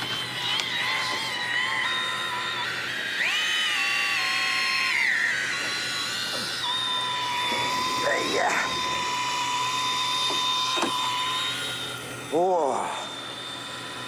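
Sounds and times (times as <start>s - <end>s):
electric fishing reel motor whining: 0.0s - 14.0s.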